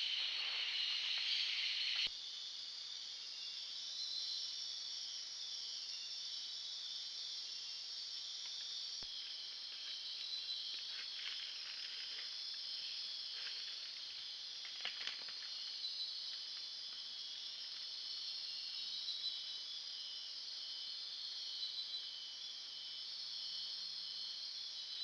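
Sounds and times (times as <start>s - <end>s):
night insects chorus: 0.0s - 25.0s.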